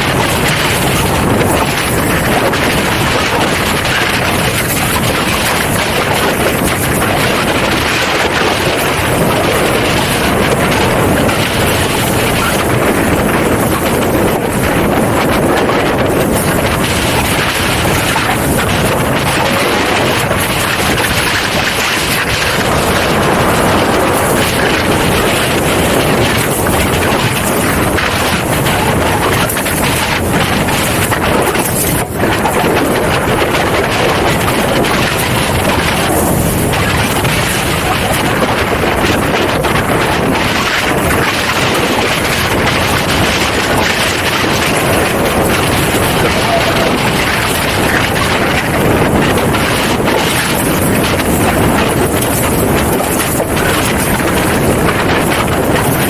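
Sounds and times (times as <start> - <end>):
water rushing past hulls: 0.0 - 56.0
wind blasting microphone: 0.0 - 56.0.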